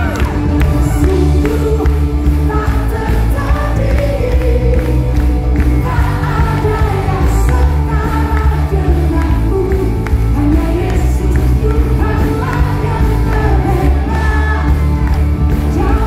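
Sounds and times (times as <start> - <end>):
bass beat: 0.0 - 16.0
pop song over a pa system: 0.0 - 16.0
singer on a microphone: 0.0 - 16.0.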